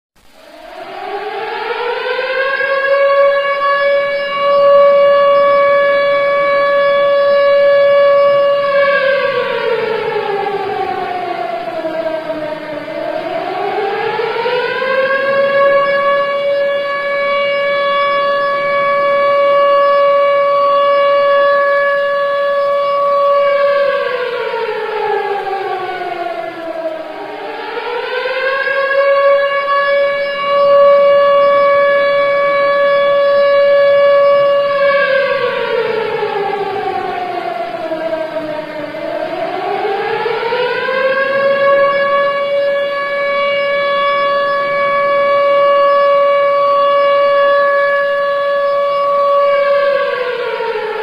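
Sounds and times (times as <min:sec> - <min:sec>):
civil defence siren wailing: 0:00.2 - 0:51.0.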